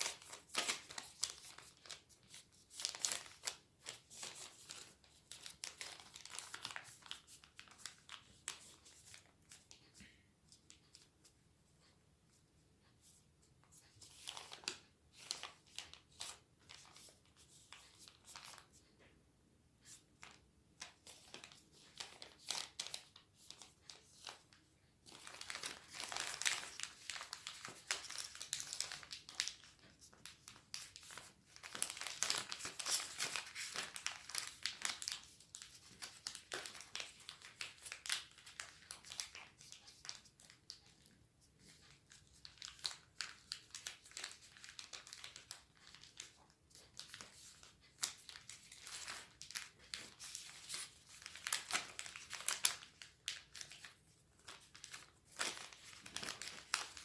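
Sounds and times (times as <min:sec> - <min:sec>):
paper being folded and creased: 0:00.0 - 0:11.1, 0:19.9 - 0:57.0.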